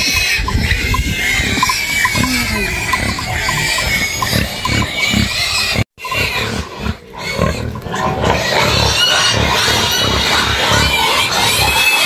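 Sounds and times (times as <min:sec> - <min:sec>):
animal grunting: 0:00.0 - 0:12.0.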